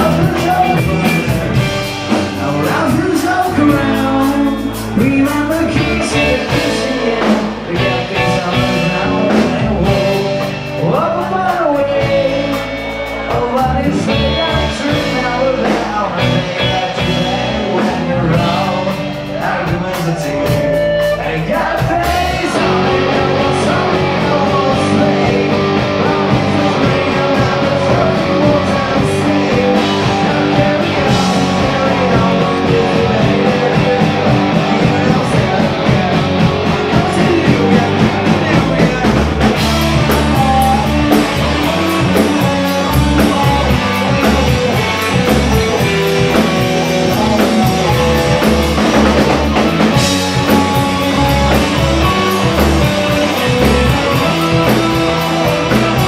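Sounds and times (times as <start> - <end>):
drum kit: 0.0 - 56.0
electric bass: 0.0 - 56.0
electric guitars: 0.0 - 56.0.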